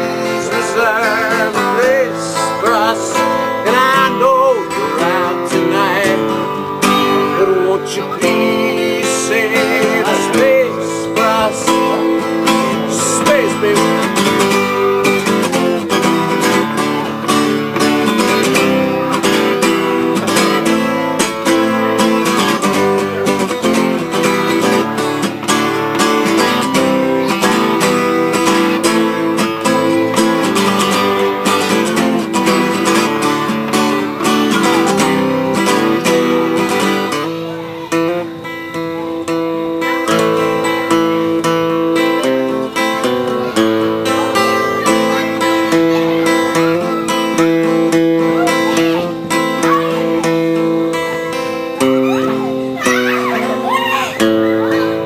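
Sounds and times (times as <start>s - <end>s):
bending lead guitar melody: 0.0s - 55.0s
strummed acoustic guitar: 0.0s - 55.0s.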